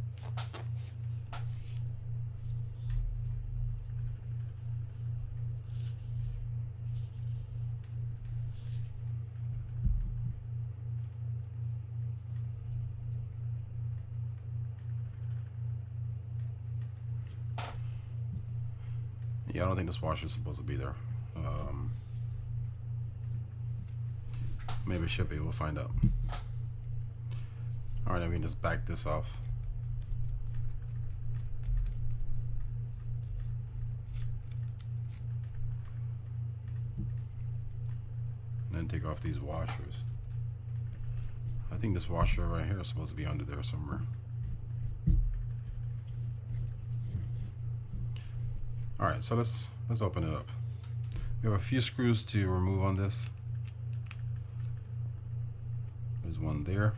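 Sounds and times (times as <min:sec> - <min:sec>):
throbbing low hum: 0:00.0 - 0:56.9.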